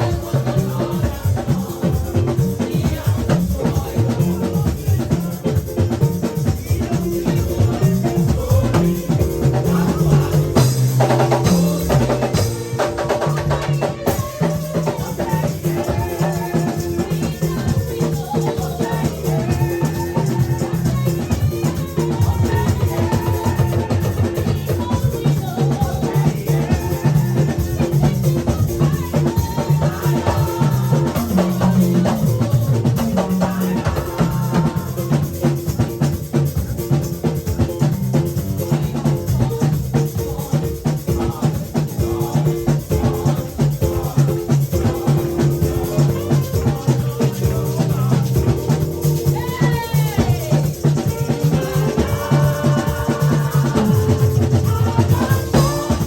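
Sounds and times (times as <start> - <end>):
drum kit playing a beat: 0.0 - 56.0.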